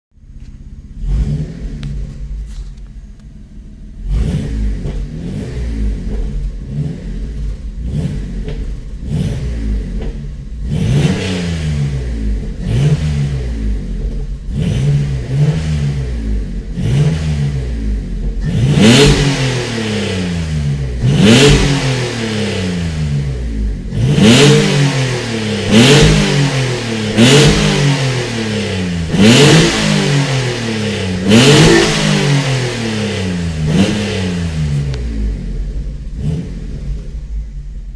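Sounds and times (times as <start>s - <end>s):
car engine revving: 0.4s - 37.9s.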